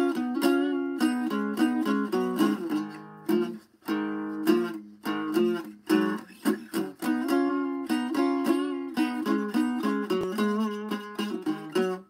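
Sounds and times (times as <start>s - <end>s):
acoustic guitar picked and strummed: 0.0s - 12.0s.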